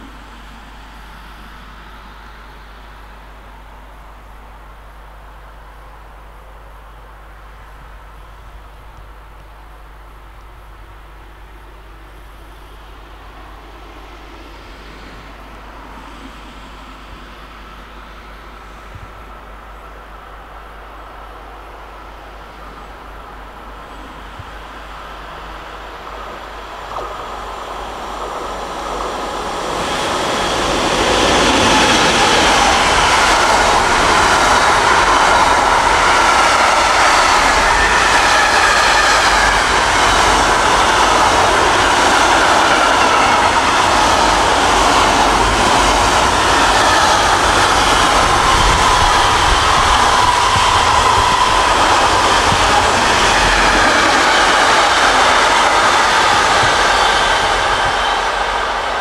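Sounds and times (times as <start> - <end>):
freight train passing: 0.0 - 59.0
steel wheels on rails: 0.0 - 59.0.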